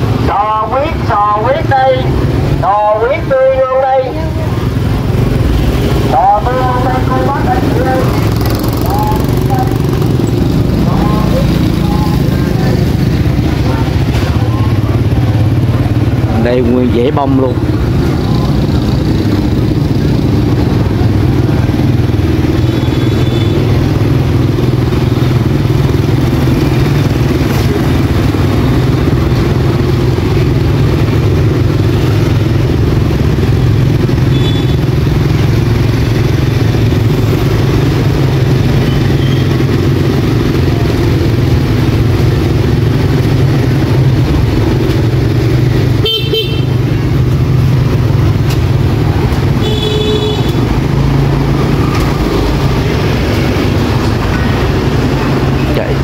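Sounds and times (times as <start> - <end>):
motorcycle engine droning: 0.0 - 56.0
road noise: 0.0 - 56.0.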